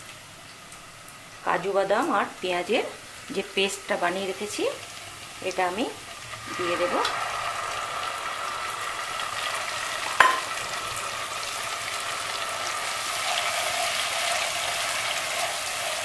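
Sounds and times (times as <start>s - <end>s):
paste sizzling in oil: 2.3s - 16.0s.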